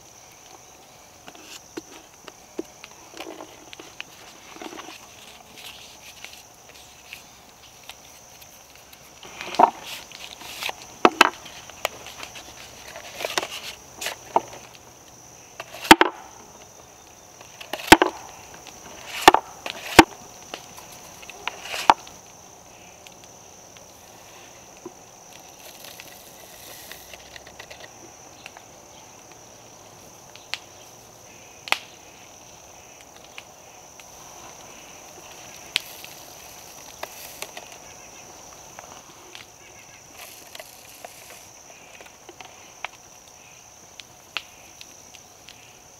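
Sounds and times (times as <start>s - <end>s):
high insect drone: 0.0s - 45.9s.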